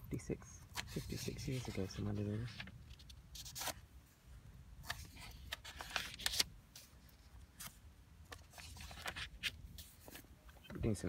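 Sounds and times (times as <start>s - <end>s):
paper pages rustling: 0.7s - 3.8s, 4.8s - 10.7s.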